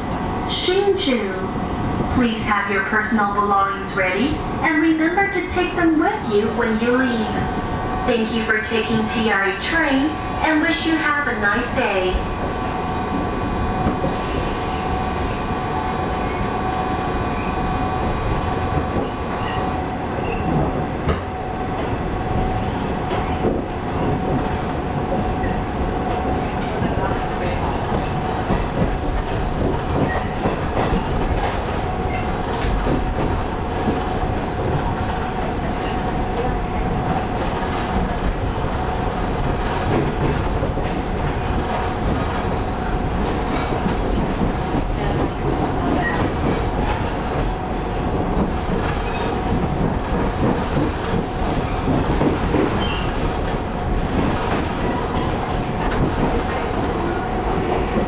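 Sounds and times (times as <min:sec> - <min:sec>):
clickety-clack over track joints: 0:00.0 - 0:58.0
constant train whine: 0:00.0 - 0:58.0
train wheels rumbling on rails: 0:00.0 - 0:58.0.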